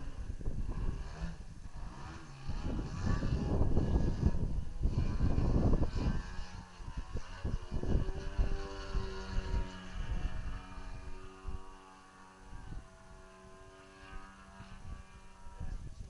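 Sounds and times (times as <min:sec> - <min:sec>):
model airplane engine at high revs: 0:00.0 - 0:16.0
wind rumbling on microphone: 0:00.0 - 0:16.0.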